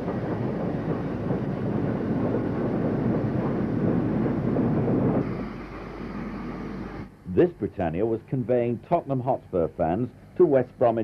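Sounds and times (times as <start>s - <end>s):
steam locomotive running: 0.0s - 11.0s.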